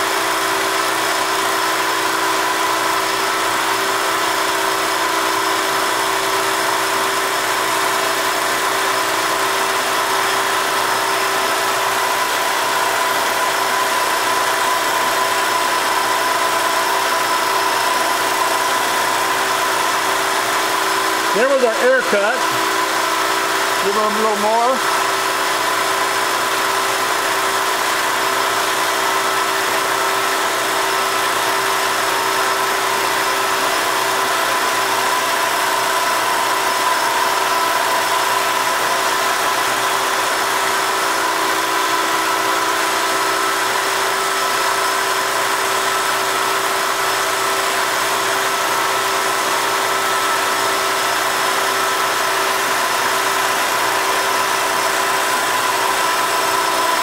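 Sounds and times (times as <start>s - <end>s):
grinder spindle whine: 0.0s - 57.0s
lathe hum: 0.0s - 57.0s.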